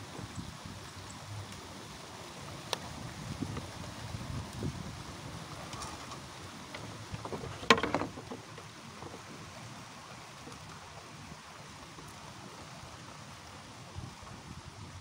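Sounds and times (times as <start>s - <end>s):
water over a pond: 0.0s - 15.0s
wind: 0.0s - 15.0s.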